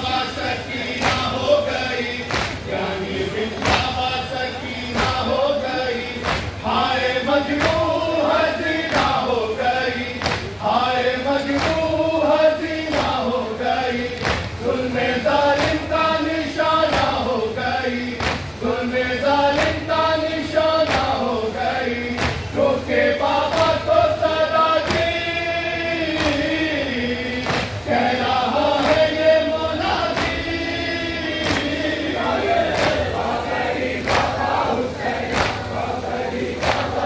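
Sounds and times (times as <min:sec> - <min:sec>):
crowd of men chanting: 0:00.0 - 0:37.0.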